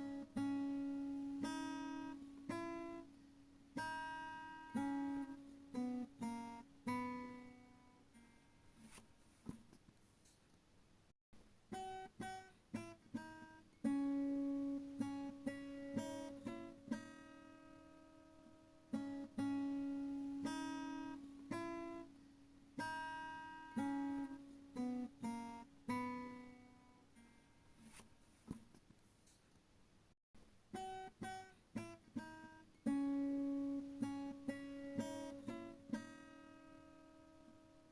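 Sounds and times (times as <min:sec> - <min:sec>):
plucked acoustic guitar: 0:00.0 - 0:09.6, 0:11.7 - 0:28.6, 0:30.7 - 0:37.9.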